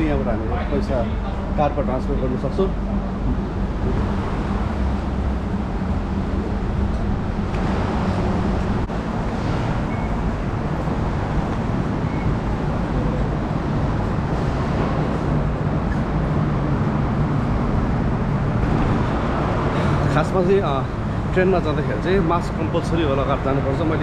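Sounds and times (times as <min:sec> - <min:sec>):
station rumble and hum: 0:00.0 - 0:24.0.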